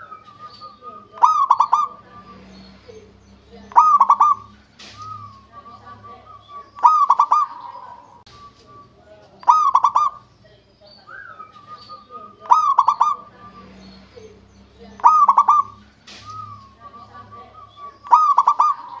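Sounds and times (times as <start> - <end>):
dove cooing: 0.0 - 2.4, 3.6 - 10.3, 11.1 - 13.7, 15.0 - 19.0.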